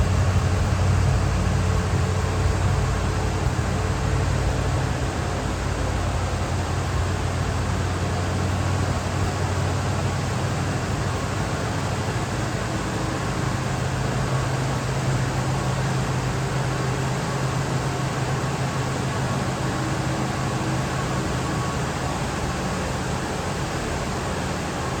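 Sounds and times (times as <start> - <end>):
car engine idling: 0.0 - 25.0
constant hiss: 0.0 - 25.0.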